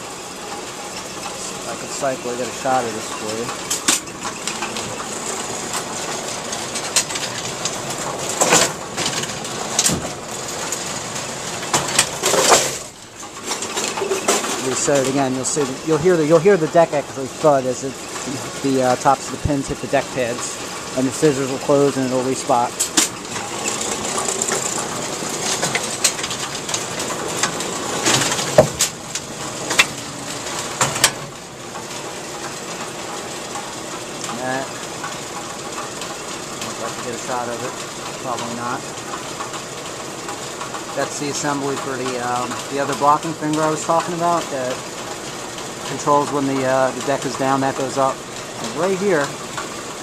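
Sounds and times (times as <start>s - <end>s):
steady mechanical clatter: 0.0s - 50.0s
sharp knocks and clanks: 1.0s - 44.8s.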